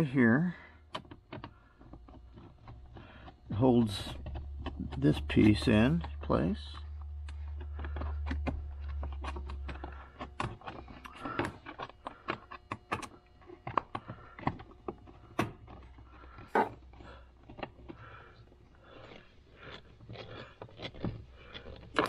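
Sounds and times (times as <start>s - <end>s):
low steady hum: 0.0s - 22.0s
plastic parts clicking and knocking: 0.8s - 22.0s.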